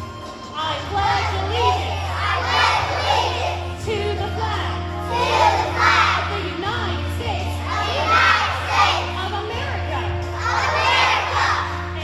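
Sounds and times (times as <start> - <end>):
musical accompaniment: 0.0 - 12.0
children singing: 0.7 - 12.0.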